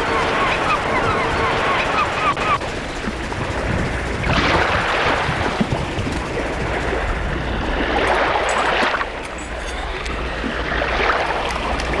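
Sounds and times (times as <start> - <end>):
low rumble: 0.6 - 12.0.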